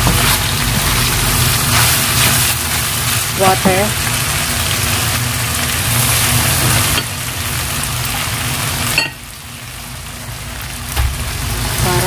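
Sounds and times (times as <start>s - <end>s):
food sizzling in a hot pan: 0.0s - 12.0s.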